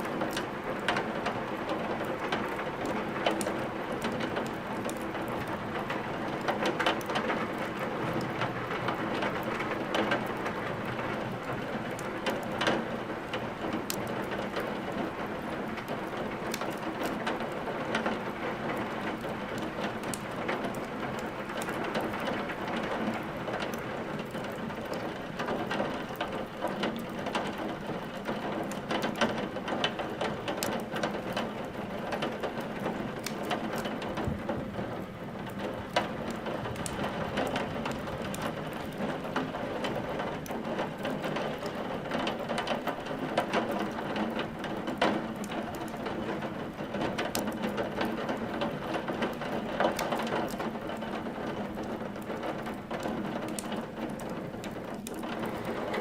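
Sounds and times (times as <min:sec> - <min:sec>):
steady rain falling: 0:00.0 - 0:56.0
wood fire crackling and popping: 0:00.0 - 0:56.0.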